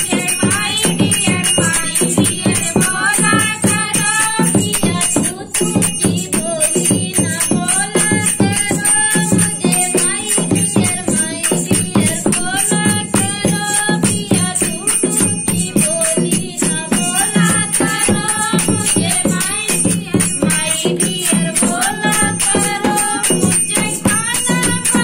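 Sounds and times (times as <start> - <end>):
hand drum beat: 0.0 - 25.0
small hand cymbals jingling: 0.0 - 25.0
women singing: 0.0 - 25.0.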